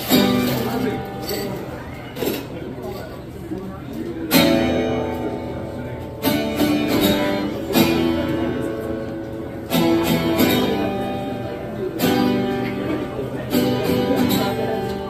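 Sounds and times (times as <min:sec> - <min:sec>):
acoustic guitar strumming chords: 0:00.0 - 0:02.7, 0:04.2 - 0:15.0.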